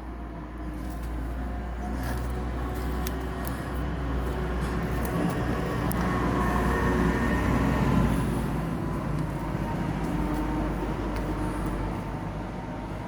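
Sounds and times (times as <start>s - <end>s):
tractor engine running: 0.8s - 13.0s.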